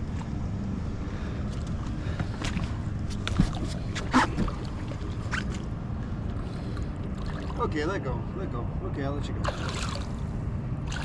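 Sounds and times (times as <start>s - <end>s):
water around a boat: 0.0s - 11.0s
wind: 0.0s - 11.0s.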